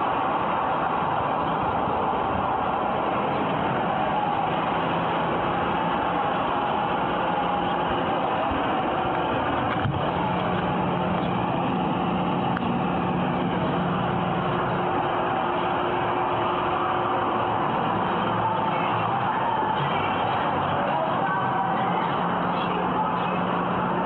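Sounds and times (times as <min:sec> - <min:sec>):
street noise: 0:00.0 - 0:24.0
vehicle engine idling: 0:00.0 - 0:24.0.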